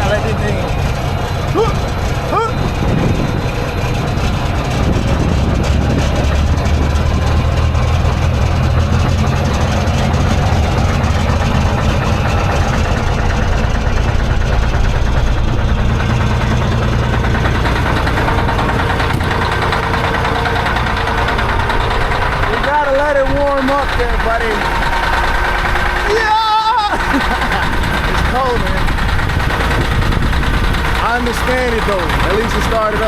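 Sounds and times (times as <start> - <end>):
truck diesel engine idling: 0.0 - 33.0.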